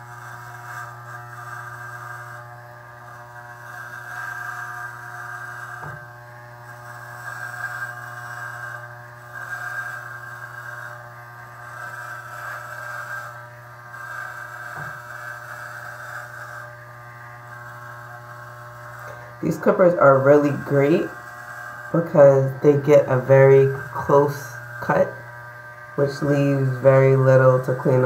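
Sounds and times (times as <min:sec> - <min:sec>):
hair trimmer buzzing: 0:00.0 - 0:28.0.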